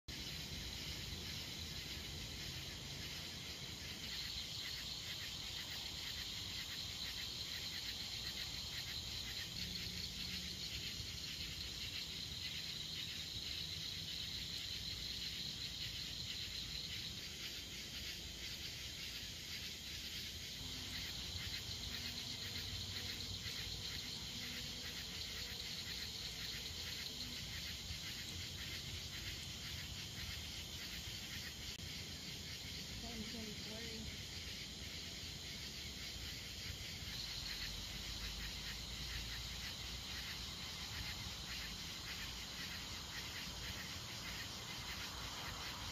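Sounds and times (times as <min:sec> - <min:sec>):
night insects trilling: 0:00.1 - 0:45.9.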